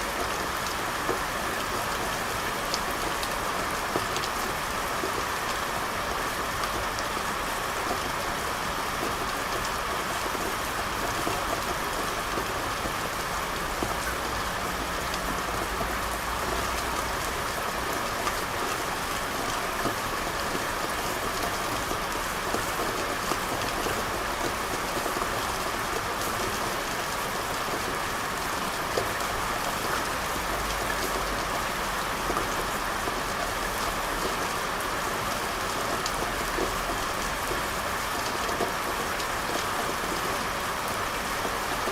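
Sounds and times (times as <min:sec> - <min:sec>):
rain pattering on hard surfaces: 0:00.0 - 0:41.9.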